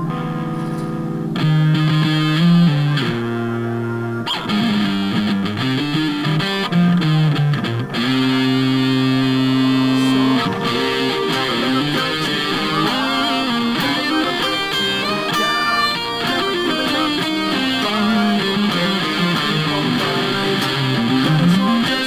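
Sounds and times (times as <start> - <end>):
electric guitar melody: 0.0 - 22.0.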